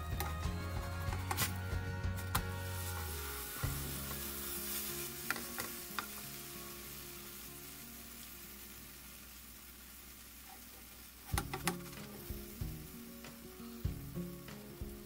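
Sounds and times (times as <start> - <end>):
sandwich sizzling in a pan: 2.4 - 15.0.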